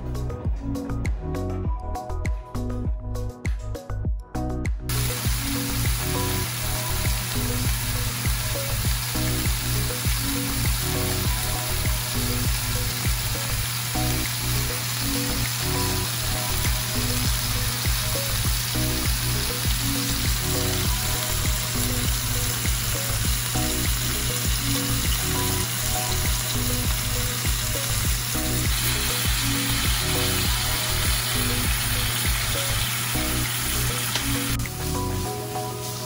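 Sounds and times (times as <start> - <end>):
background music: 0.0 - 36.0
meat sizzling in a frying pan: 4.9 - 36.0.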